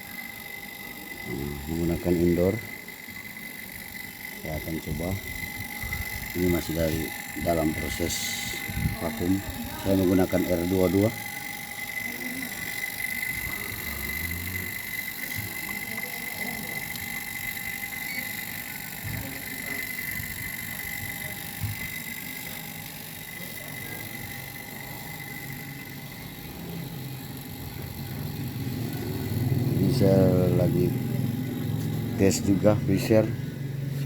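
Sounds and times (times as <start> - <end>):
vacuum pump whining: 0.0 - 34.0.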